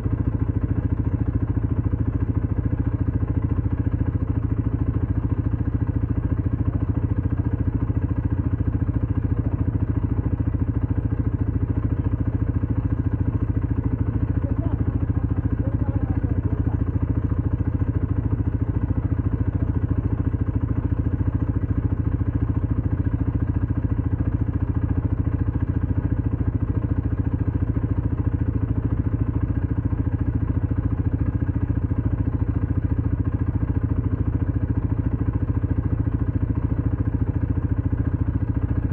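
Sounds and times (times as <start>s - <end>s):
atv engine running steadily: 0.0s - 38.9s.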